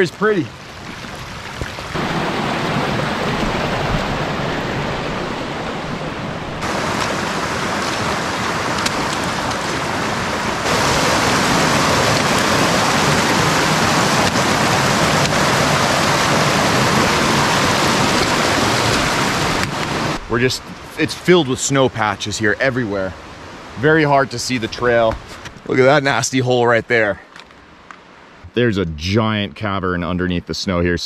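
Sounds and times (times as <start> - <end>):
creek water rushing over rocks: 0.0 - 27.1.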